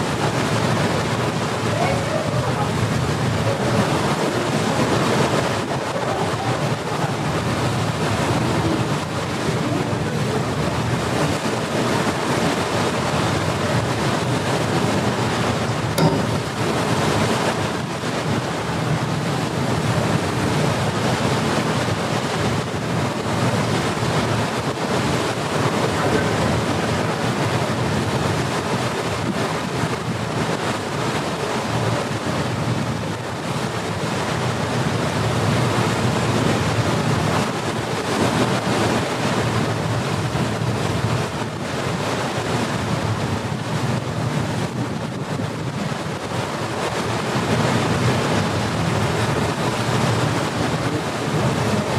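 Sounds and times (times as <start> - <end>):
sea water rushing: 0.0 - 51.9
wind buffeting microphone: 0.0 - 51.9.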